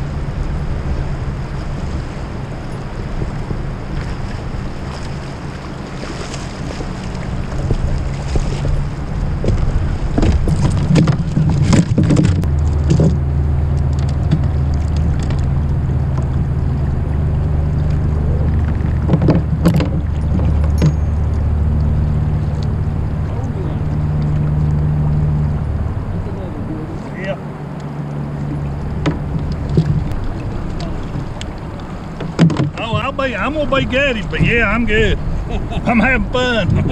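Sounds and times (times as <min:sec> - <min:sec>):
choppy river water: 0:00.0 - 0:36.9
wind rumble on microphone: 0:00.0 - 0:36.9
knocks and splashes: 0:00.1 - 0:26.0, 0:27.4 - 0:36.9.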